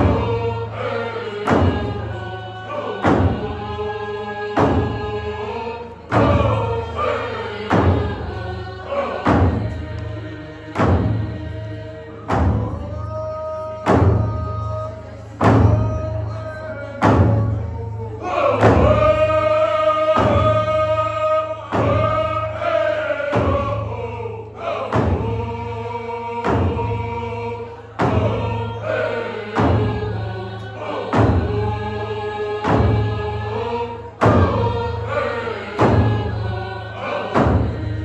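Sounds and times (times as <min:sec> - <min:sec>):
drum beating slowly: 0:00.0 - 0:38.0
group of voices singing: 0:00.0 - 0:38.0.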